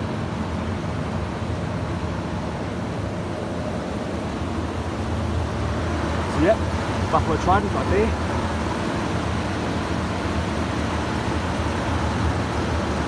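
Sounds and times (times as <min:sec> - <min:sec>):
fans humming and rushing air: 0:00.0 - 0:13.0.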